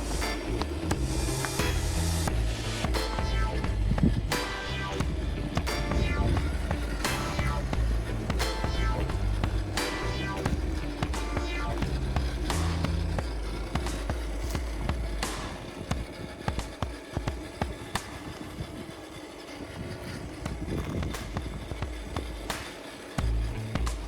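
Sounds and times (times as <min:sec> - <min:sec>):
toy truck driving over rocks: 0:00.0 - 0:24.0.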